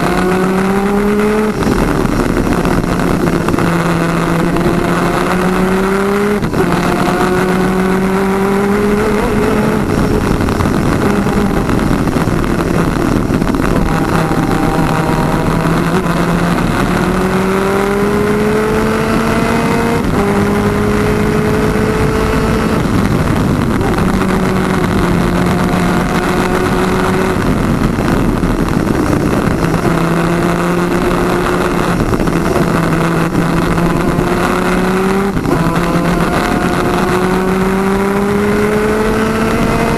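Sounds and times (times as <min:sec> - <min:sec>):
two-stroke kart engine revving: 0:00.0 - 0:39.9
wind rush: 0:00.0 - 0:39.9.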